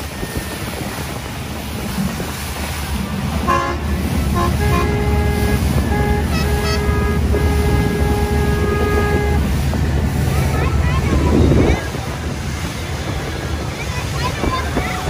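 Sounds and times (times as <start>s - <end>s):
boat engine rumble: 0.0s - 15.0s
boat horns honking: 0.0s - 15.0s
wind: 0.0s - 15.0s.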